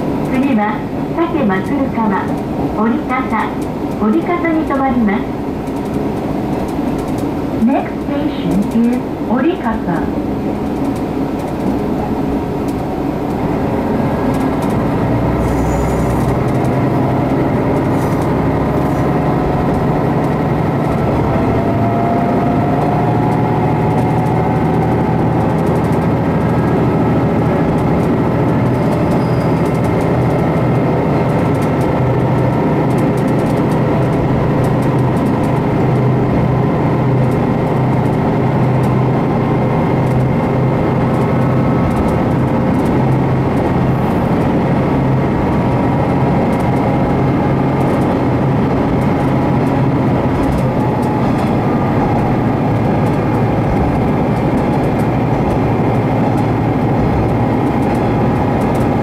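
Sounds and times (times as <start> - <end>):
railcar engine drone: 0.0 - 59.0
wheels rumbling on rails: 0.0 - 59.0.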